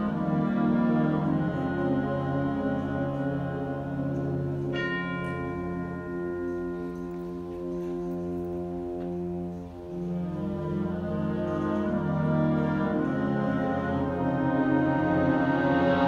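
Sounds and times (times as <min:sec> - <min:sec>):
band holding soft wind chords: 0:00.0 - 0:16.0.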